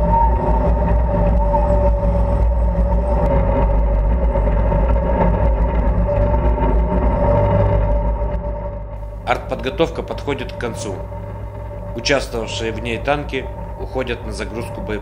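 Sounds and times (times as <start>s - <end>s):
tank engine rumble with whine: 0.0s - 15.0s.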